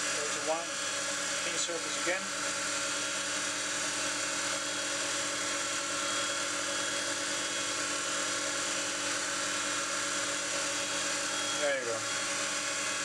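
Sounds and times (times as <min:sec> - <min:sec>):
pad buffing spinning wood: 0:00.0 - 0:13.0
wood lathe motor hum: 0:00.0 - 0:13.0.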